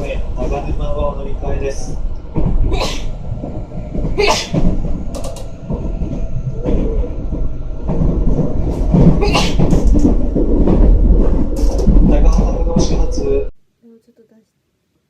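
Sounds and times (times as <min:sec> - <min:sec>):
train rumbling: 0:00.0 - 0:13.6.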